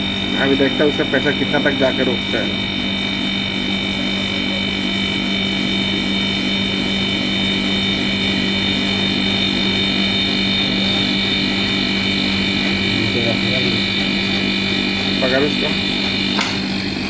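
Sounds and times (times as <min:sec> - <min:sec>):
compressor humming with high whine: 0:00.0 - 0:17.0.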